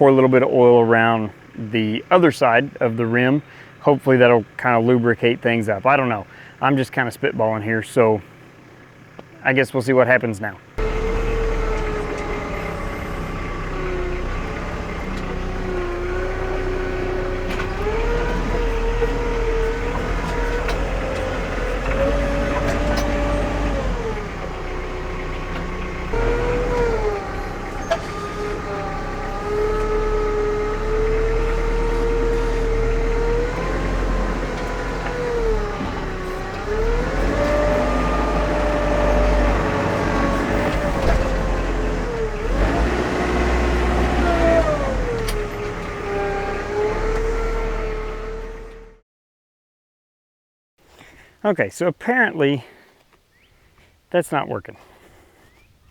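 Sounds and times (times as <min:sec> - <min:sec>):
engine lugging under load: 0:00.0 - 0:49.0.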